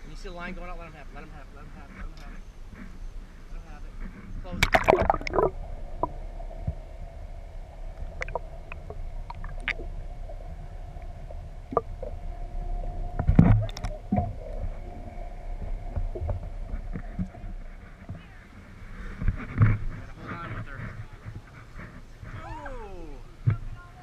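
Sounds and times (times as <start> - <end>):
boat engine low rumble: 0.0 - 24.0
faint hum: 0.0 - 24.0.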